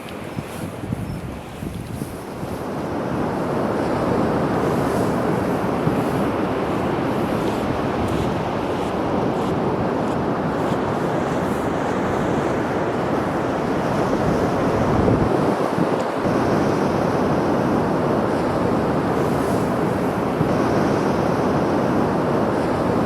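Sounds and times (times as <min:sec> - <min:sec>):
waves breaking on shore: 0:00.0 - 0:23.0.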